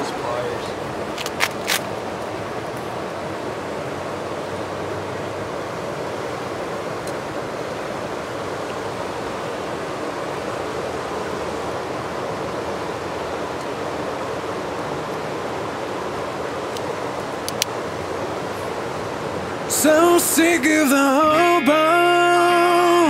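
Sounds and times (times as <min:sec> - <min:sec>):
river water flowing over rocks: 0:00.0 - 0:23.0.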